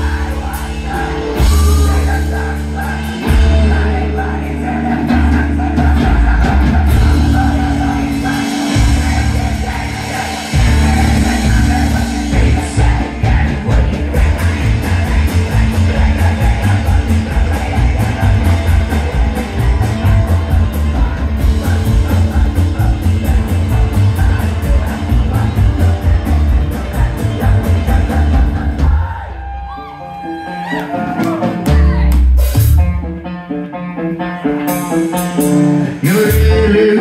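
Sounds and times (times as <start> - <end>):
person singing: 0.0 - 32.4, 34.4 - 37.0
punk band playing: 0.0 - 37.0.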